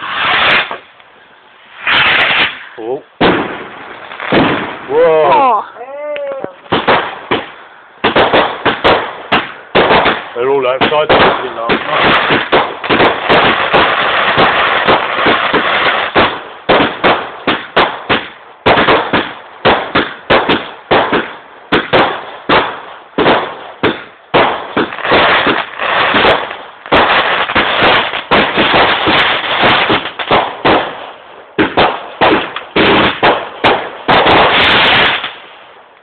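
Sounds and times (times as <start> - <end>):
fireworks bangs and crackle: 0.0 - 36.0.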